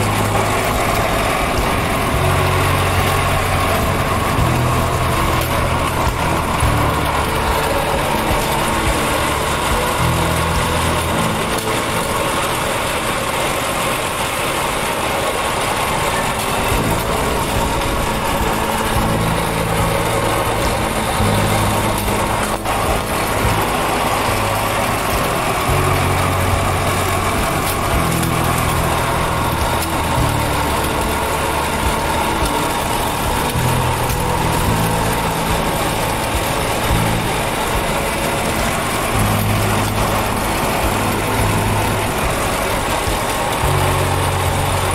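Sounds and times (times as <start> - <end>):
road and wind noise: 0.0 - 44.9
vehicle engine running: 0.0 - 44.9.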